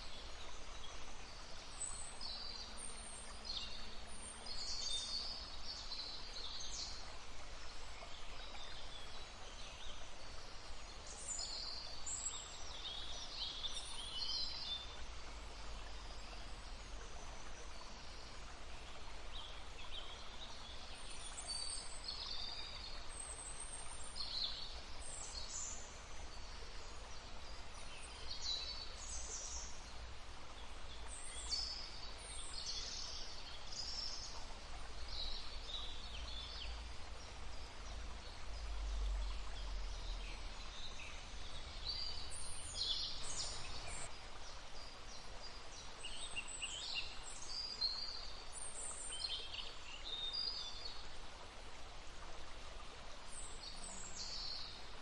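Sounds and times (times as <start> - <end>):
flowing brook: 0.0 - 55.0
songbirds chirping: 0.0 - 55.0.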